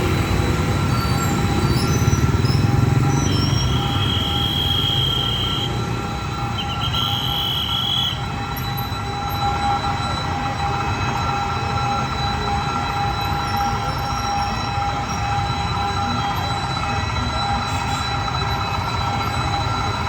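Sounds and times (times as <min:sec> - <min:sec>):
high-pitched wheel squeal: 0:00.0 - 0:20.0
train wheels rumbling on rails: 0:00.0 - 0:20.0.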